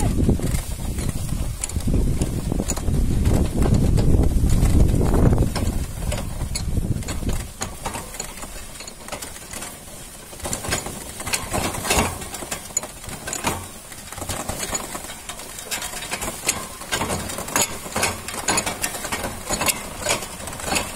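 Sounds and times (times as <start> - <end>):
wooden cart wheels creaking: 0.0 - 20.9.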